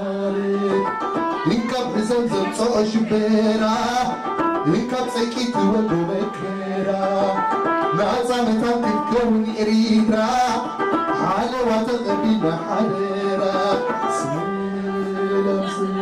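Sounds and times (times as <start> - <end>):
guitar: 0.0 - 16.0
live band music: 0.0 - 16.0.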